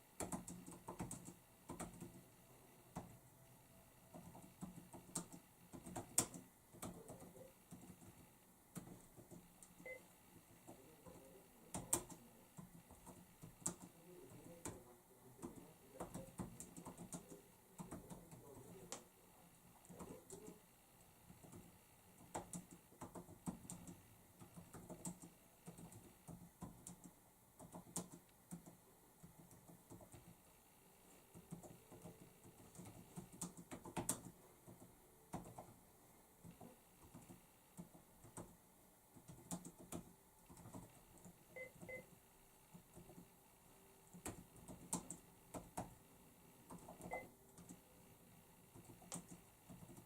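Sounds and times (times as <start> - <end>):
computer keyboard typing: 0.2 - 2.2, 2.9 - 3.2, 4.1 - 19.1, 19.8 - 20.6, 21.3 - 30.4, 31.1 - 35.8, 36.4 - 38.6, 39.2 - 43.4, 44.0 - 46.0, 46.7 - 47.9, 48.7 - 50.0.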